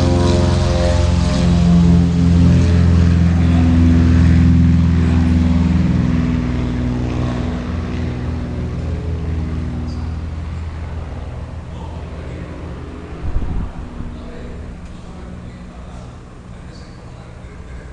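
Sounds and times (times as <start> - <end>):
propeller airplane engines droning: 0.0 - 17.9.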